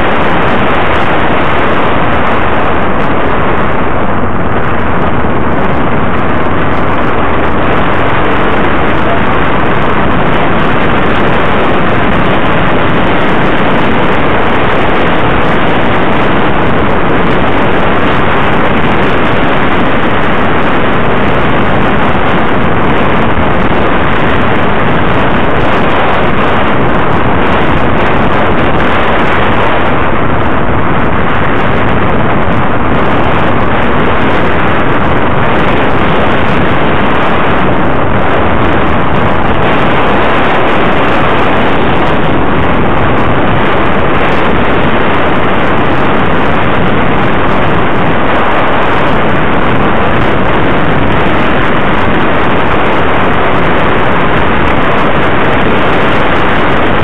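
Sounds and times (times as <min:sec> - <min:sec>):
wind rushing on microphone: 0:00.0 - 0:57.0.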